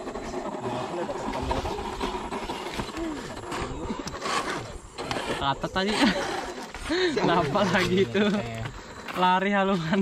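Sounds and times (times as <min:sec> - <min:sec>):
small electric motor whining: 0:00.0 - 0:10.0.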